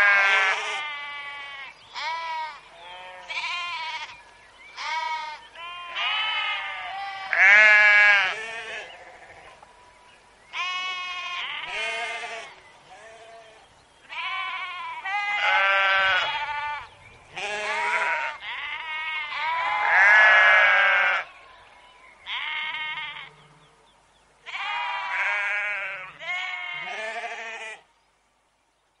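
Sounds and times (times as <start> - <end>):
sheep bleating: 0.0 - 4.2, 4.8 - 9.4, 10.5 - 21.6, 22.3 - 23.5, 24.4 - 27.9.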